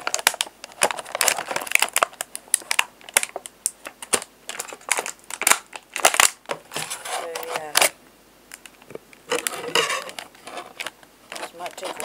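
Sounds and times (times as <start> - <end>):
plastic packaging clicks and crinkling: 0.0 - 12.0.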